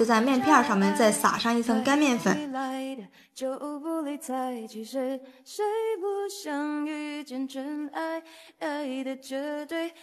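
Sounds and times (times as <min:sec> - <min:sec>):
woman singing: 0:00.0 - 0:10.0.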